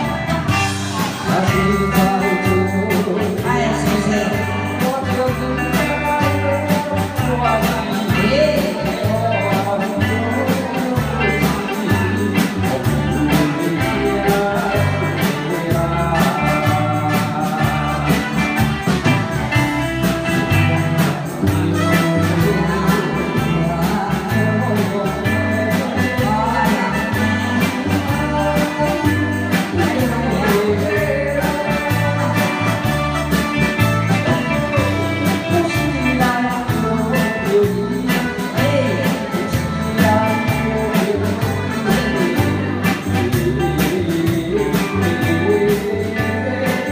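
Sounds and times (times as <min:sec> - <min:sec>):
live band playing: 0:00.0 - 0:46.9
people singing through microphones: 0:00.0 - 0:46.9.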